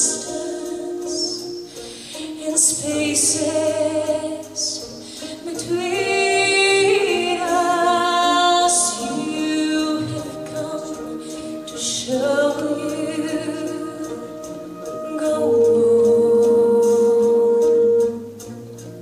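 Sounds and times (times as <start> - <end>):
woman singing: 0.0 - 18.4
orchestral chords: 0.0 - 19.0.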